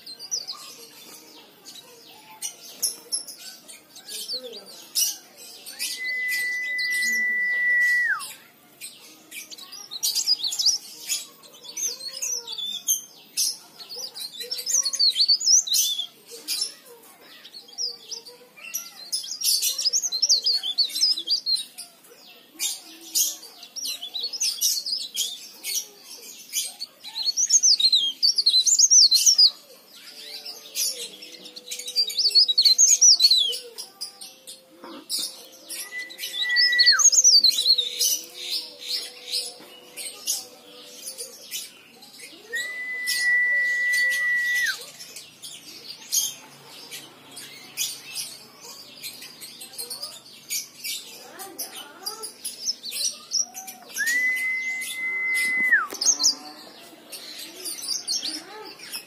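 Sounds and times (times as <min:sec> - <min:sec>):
bird twittering song: 0:00.0 - 0:59.0.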